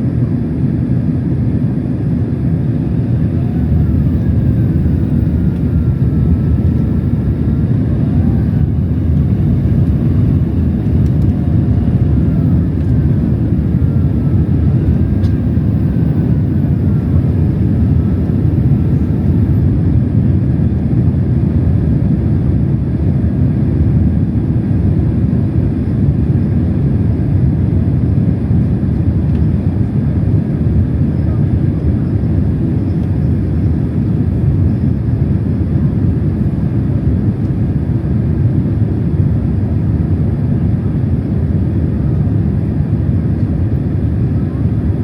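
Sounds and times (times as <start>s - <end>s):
airplane cabin engine rumble: 0.0s - 45.0s.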